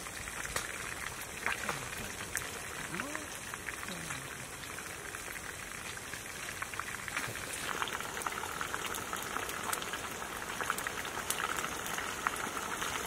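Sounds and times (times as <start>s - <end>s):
sizzling crackle with sharp pops: 0.0s - 13.0s.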